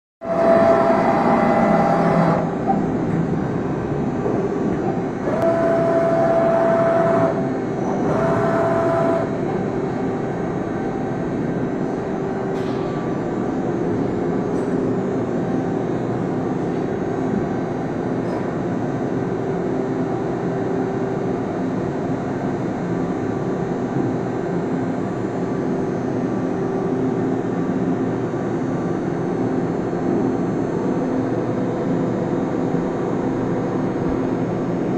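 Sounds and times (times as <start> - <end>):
high steady whine: 0.2 - 34.9
lathe running hum: 0.2 - 34.9.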